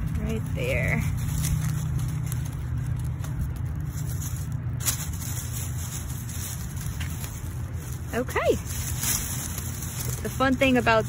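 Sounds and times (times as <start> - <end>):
dry leaves rustling: 0.0 - 11.0
hands scraping soil: 0.0 - 11.0
short crackles: 0.0 - 11.0
steady low rumble: 0.0 - 11.0.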